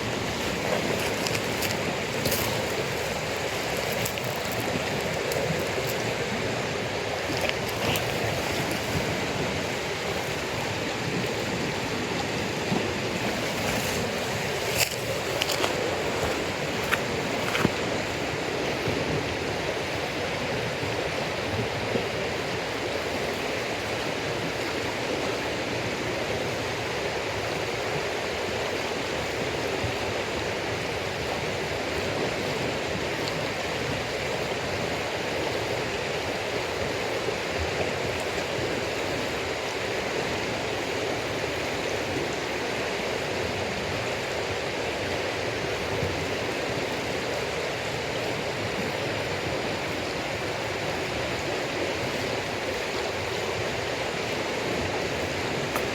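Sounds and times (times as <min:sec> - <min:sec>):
running water rushing: 0:00.0 - 0:55.9.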